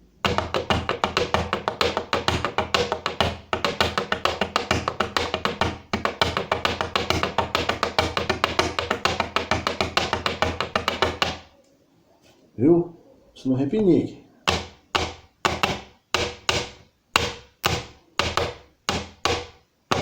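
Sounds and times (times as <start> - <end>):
pens drumming on tabletop: 0.0 - 11.5, 14.4 - 20.0.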